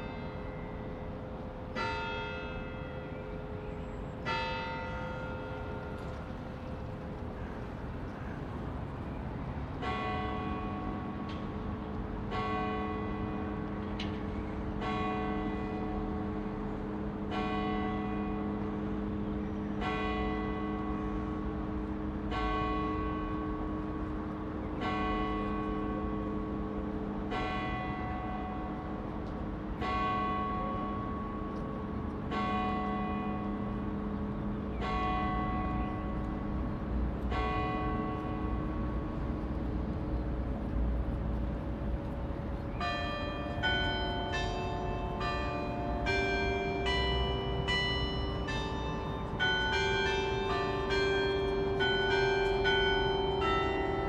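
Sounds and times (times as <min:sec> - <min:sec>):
church bells ringing: 0:00.0 - 0:07.2, 0:09.7 - 0:54.0.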